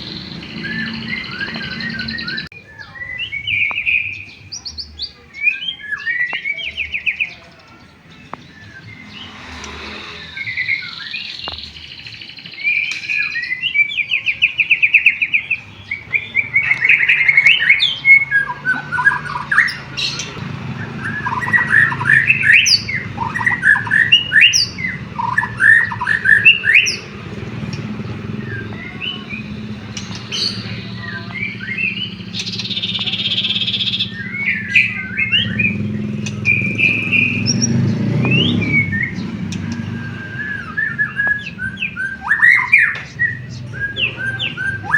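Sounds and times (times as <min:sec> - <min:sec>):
bird singing whistled phrases: 0:00.0 - 0:09.5, 0:10.2 - 0:44.9.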